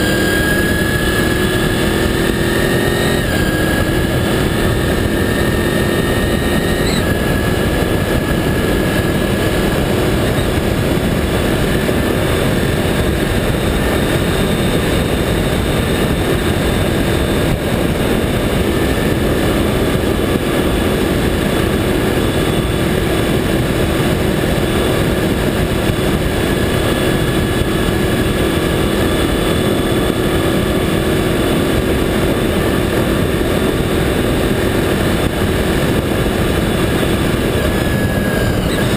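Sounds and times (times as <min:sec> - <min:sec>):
motorcycle engine cruising: 0:00.0 - 0:38.9
tyres roaring on asphalt: 0:00.0 - 0:38.9
wind rush: 0:00.0 - 0:38.9.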